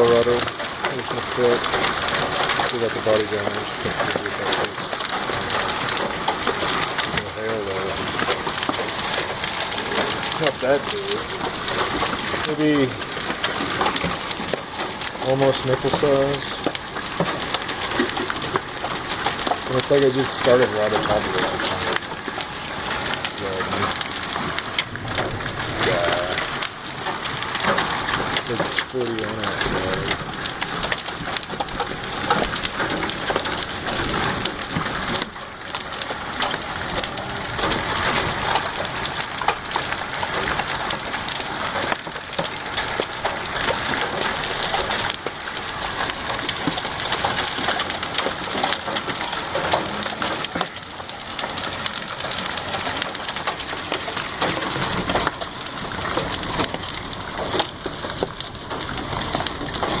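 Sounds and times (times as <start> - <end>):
hail and heavy rain: 0.0 - 60.0.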